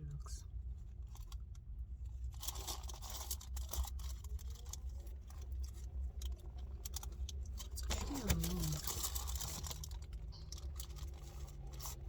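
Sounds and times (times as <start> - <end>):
low steady hum: 0.0 - 12.0
rustling and scraping: 2.0 - 12.0.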